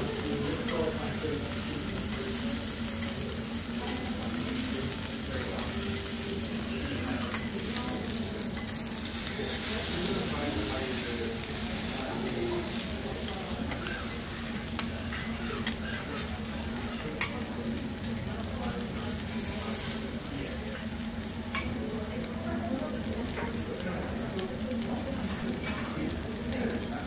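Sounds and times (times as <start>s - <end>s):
steak sizzling on griddle: 0.0s - 27.0s.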